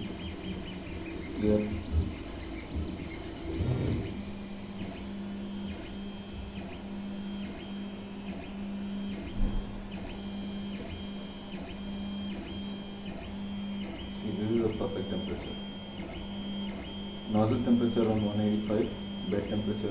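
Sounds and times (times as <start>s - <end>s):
printer stepper motors whining: 0.0s - 19.9s.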